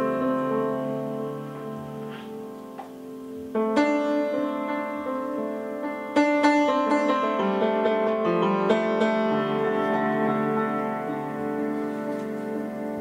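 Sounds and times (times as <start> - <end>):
piano chords and notes: 0.0 - 13.0.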